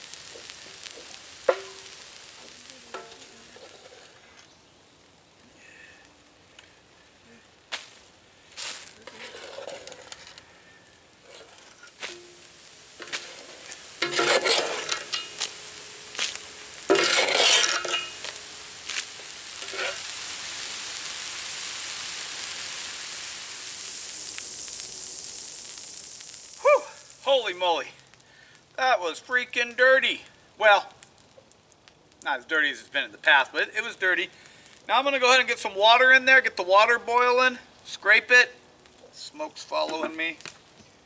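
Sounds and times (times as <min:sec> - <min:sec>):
water sizzling on hot metal: 0:00.0 - 0:41.0.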